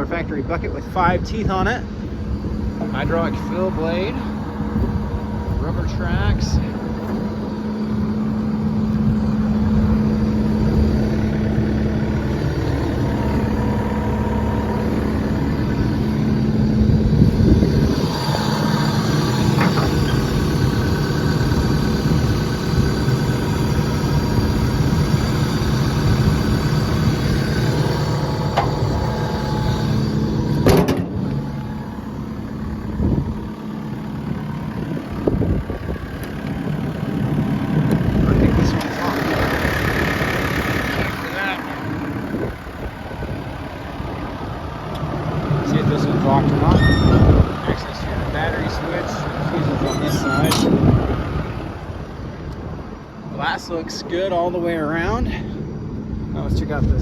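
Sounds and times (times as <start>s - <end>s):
excavator diesel engine running: 0.0s - 57.0s
hydraulic whine: 1.8s - 53.3s.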